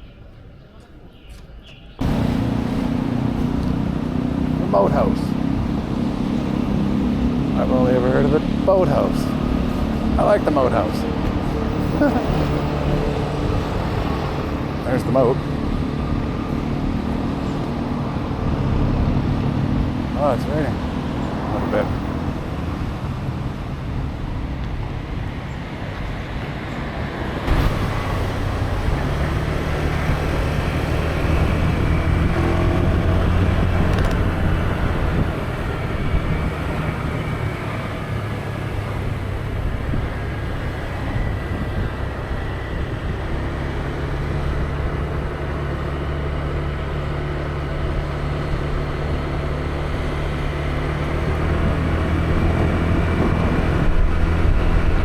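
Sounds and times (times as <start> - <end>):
street traffic: 0.0 - 55.0
vehicle engine humming close by: 2.0 - 55.0.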